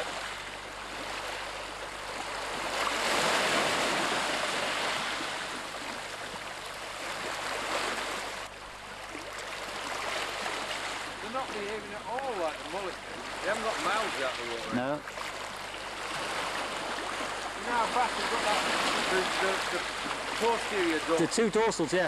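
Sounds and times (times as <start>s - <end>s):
sea water washing and lapping: 0.0s - 22.0s.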